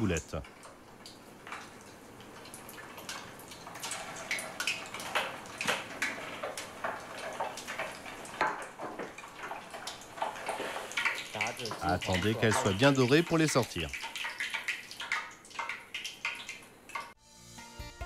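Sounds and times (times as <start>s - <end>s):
food deep-frying in hot oil: 0.0s - 17.2s.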